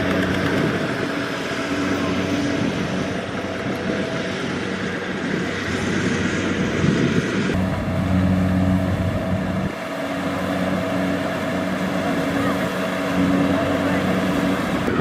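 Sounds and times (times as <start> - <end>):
combine harvester engine: 0.0 - 15.0.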